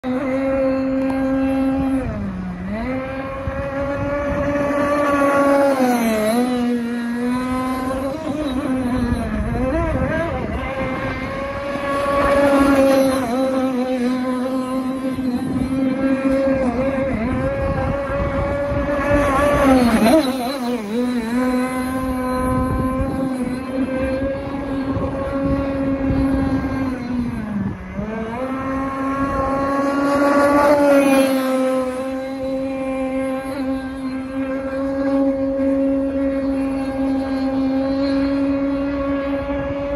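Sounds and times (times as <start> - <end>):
two-stroke boat engine racing: 0.0 - 39.9.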